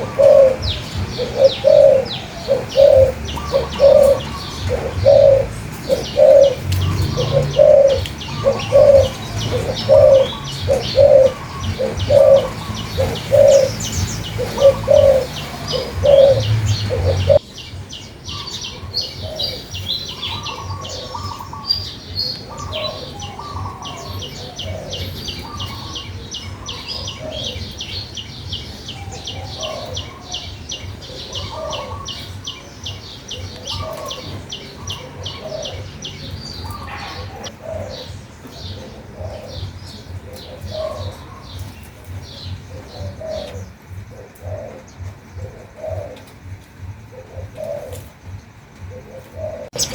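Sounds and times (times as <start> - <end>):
dove cooing: 0.0 - 17.5, 18.3 - 49.9
small birds chirping: 0.0 - 49.9.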